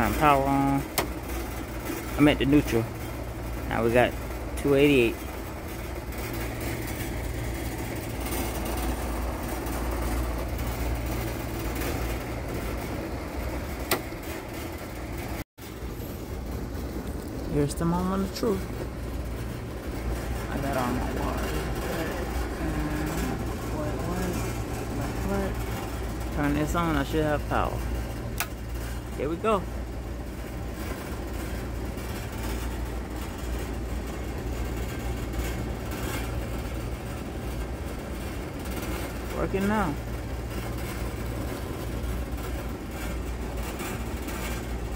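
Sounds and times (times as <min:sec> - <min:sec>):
low machinery hum: 0:00.0 - 0:44.9
ventilation rumble and air hiss: 0:00.0 - 0:44.9.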